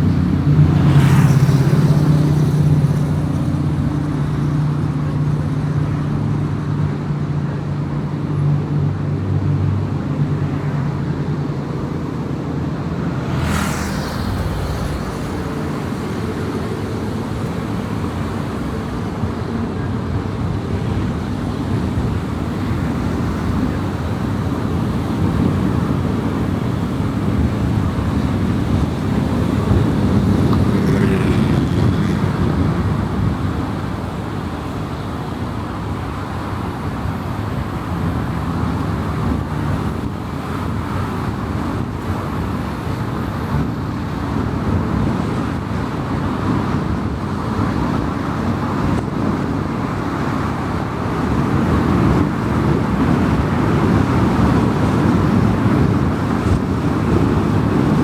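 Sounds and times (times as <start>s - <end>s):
car engine hum: 0.0s - 58.0s
road and tyre rumble: 0.0s - 58.0s.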